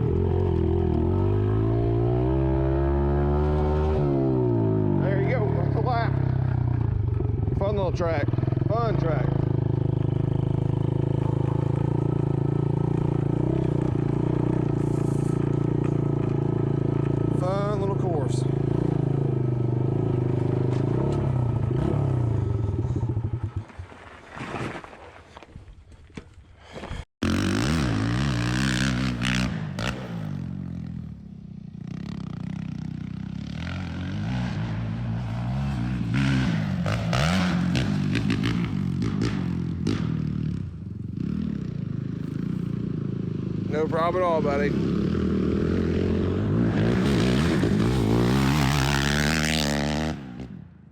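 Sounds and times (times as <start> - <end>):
dirt bike engine revving: 0.0 - 23.8, 27.2 - 50.7.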